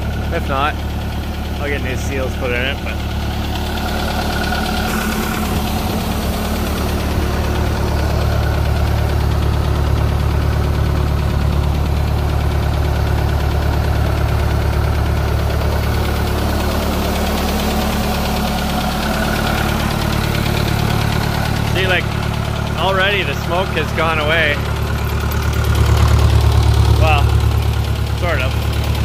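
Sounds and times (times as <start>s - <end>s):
loader engine running: 0.0s - 29.0s.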